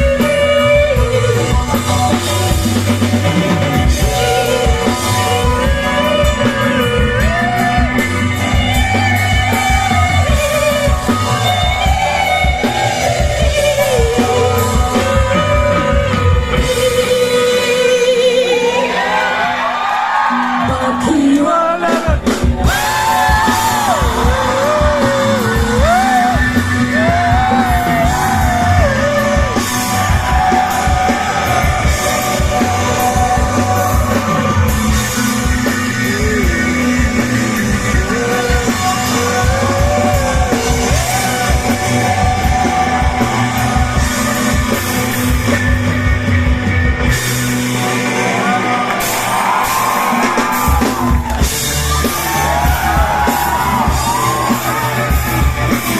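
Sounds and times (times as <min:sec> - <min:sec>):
person singing: 0:00.0 - 0:19.5, 0:20.3 - 0:46.4
live rock band playing: 0:00.0 - 0:55.9.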